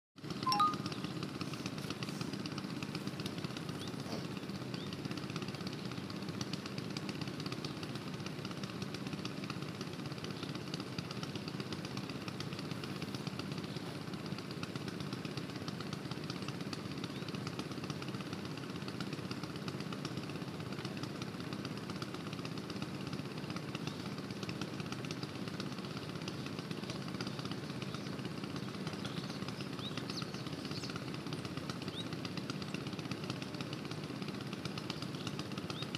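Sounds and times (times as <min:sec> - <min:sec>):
water pump engine running: 0:00.2 - 0:35.9.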